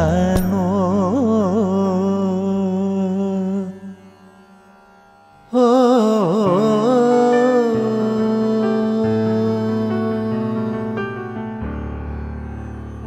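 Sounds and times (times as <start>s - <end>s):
drone: 0.0s - 13.0s.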